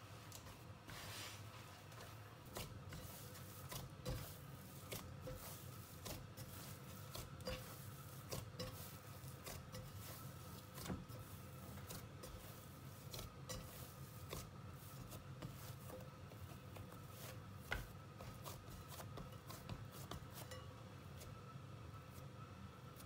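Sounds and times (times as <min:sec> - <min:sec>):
dough squishing: 0:00.0 - 0:23.0.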